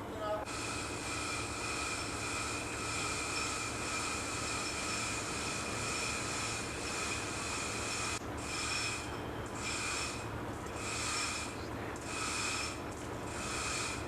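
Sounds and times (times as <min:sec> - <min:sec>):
constant machine whine: 0:00.0 - 0:14.0
engine room machinery drone: 0:00.0 - 0:14.0.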